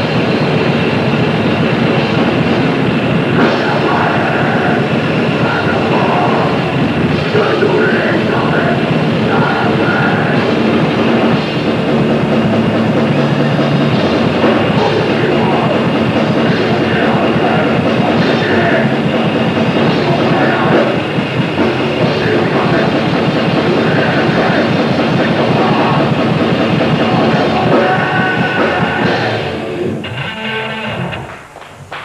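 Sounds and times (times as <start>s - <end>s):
grindcore band playing: 0.0s - 32.0s.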